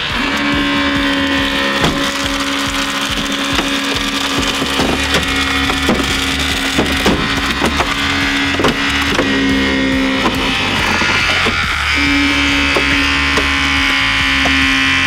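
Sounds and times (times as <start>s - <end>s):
hydraulic tool motor humming: 0.0s - 15.0s
metal and glass cracking: 0.2s - 15.0s.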